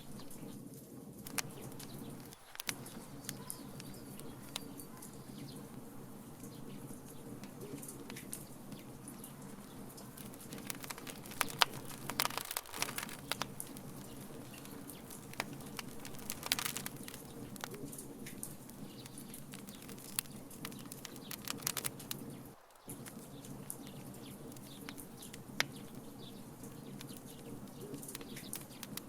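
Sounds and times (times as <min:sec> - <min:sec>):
wood fire crackling: 0:00.0 - 0:29.0
sharp pops and snaps: 0:01.2 - 0:29.0.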